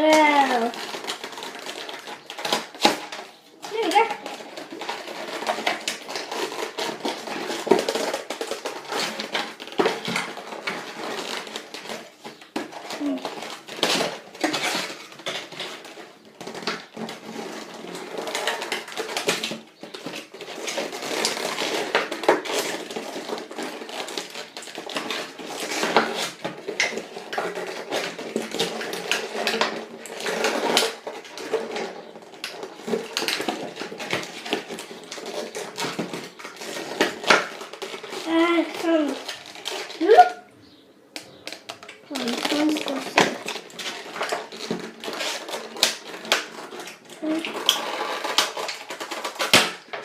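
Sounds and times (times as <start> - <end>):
packaging crinkling and rustling: 0.0 - 50.0.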